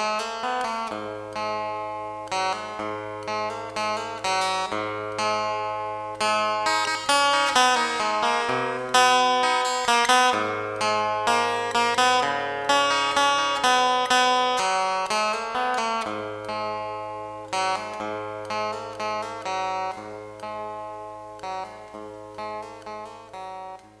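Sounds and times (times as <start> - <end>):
plucked acoustic guitar: 0.0 - 24.0.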